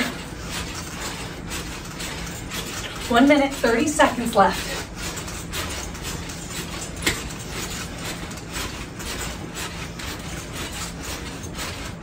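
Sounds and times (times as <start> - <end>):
trampoline creaking and thudding: 0.0 - 12.0.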